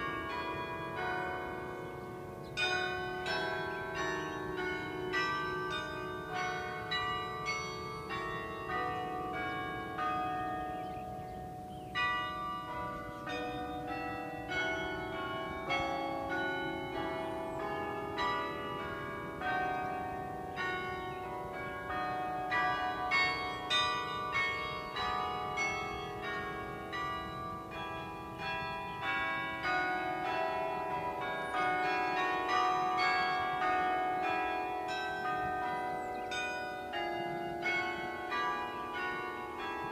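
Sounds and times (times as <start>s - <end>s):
carillon bells playing melody: 0.0s - 39.9s.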